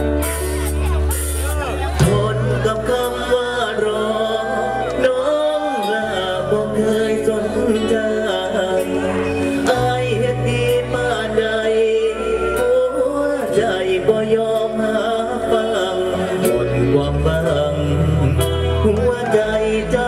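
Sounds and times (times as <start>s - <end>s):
live band music over speakers: 0.0s - 20.0s
person singing: 0.0s - 20.0s.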